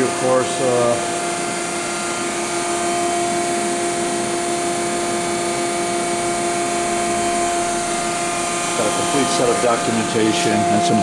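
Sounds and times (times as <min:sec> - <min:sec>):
machine hum with drone: 0:00.0 - 0:11.0.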